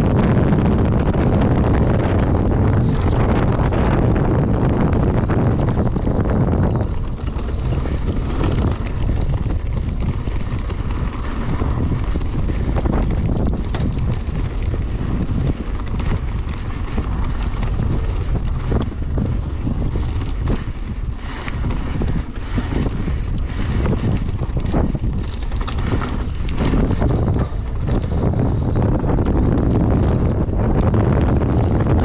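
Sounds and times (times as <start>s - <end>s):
bike clicks and rattles: 0.0s - 32.0s
wind buffeting microphone: 0.0s - 32.0s
tyres on dirt: 0.1s - 32.0s.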